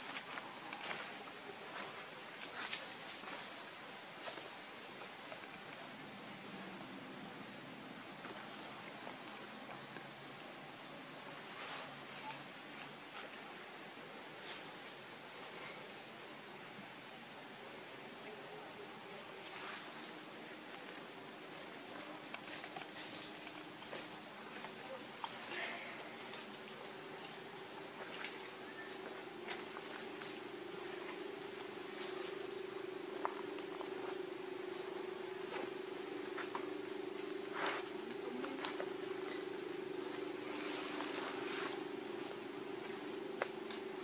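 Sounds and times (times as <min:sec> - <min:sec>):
insect chorus buzzing: 0:00.0 - 0:44.0.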